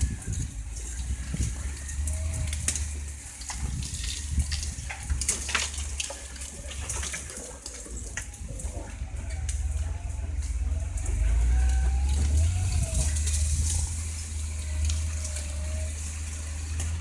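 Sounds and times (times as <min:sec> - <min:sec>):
branches crackling and scraping: 0:00.0 - 0:17.0
vehicle engine running: 0:00.0 - 0:17.0.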